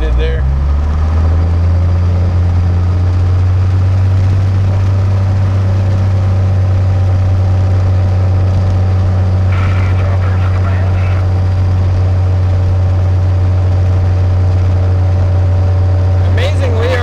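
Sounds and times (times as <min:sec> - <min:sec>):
aircraft engine running: 0:00.0 - 0:17.0.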